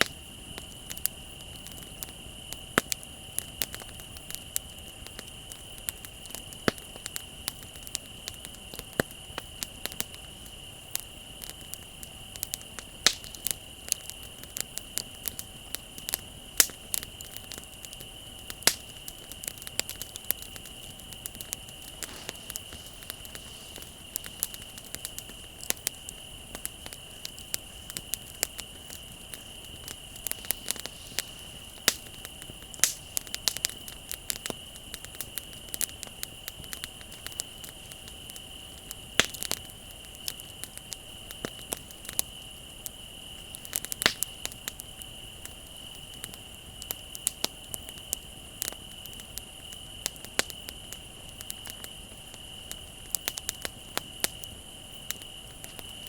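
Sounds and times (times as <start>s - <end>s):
bonfire crackling: 0.0s - 56.0s
crickets trilling: 0.0s - 56.0s.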